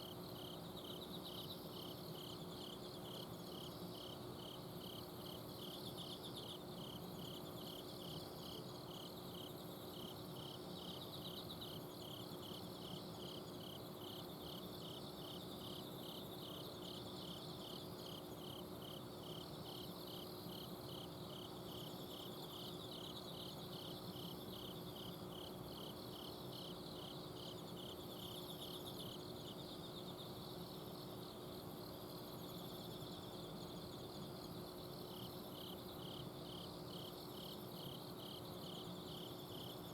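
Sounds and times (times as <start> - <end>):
cricket chirping steadily: 0.0 - 39.9
insects trilling: 0.0 - 39.9.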